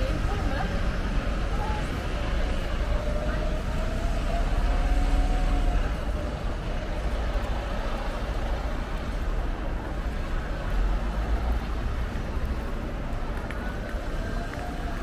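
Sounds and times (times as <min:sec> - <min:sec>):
diesel bus engine rumbling: 0:00.0 - 0:15.0.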